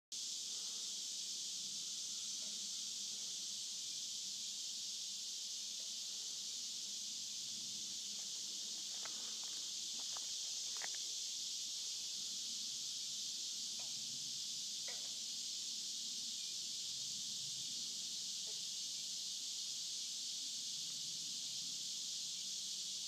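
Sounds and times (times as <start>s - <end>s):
insects chorus: 0.1s - 23.0s.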